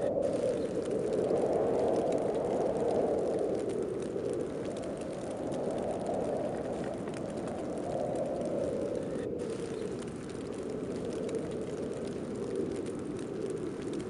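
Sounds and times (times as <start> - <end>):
faint ticks: 0.0 - 14.0
snowstorm wind rushing: 0.0 - 14.0.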